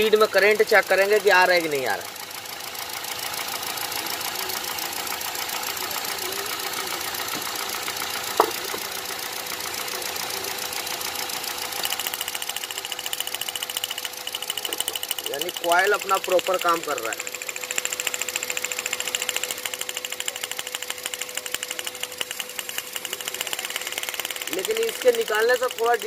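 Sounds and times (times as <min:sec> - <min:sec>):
car engine idling rough: 0:00.0 - 0:26.0
fast even ticking: 0:00.0 - 0:26.0.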